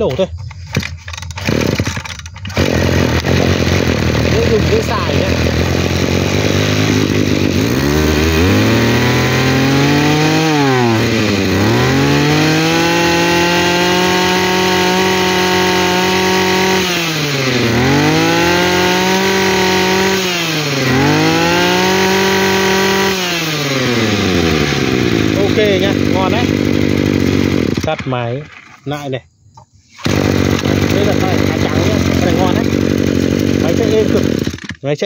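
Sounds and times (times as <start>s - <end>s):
brush cutter engine revving: 0.0s - 29.1s, 29.9s - 35.0s.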